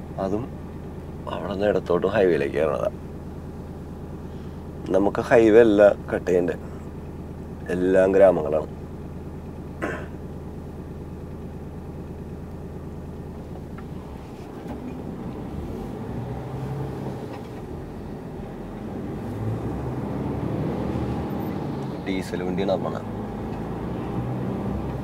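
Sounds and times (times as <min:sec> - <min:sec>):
road noise: 0:00.0 - 0:25.0
truck diesel engine: 0:00.0 - 0:25.0.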